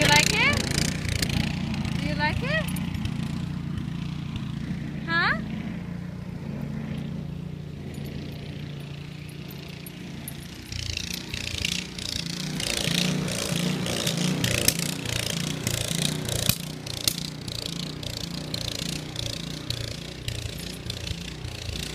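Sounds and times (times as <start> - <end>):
snowblower engine running: 0.0 - 21.9.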